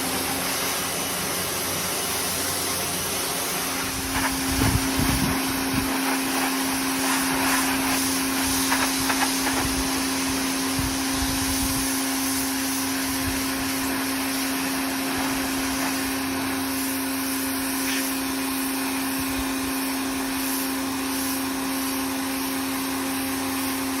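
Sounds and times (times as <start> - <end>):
water spray hissing: 0.0 - 23.8
pressure washer motor humming: 0.0 - 24.0.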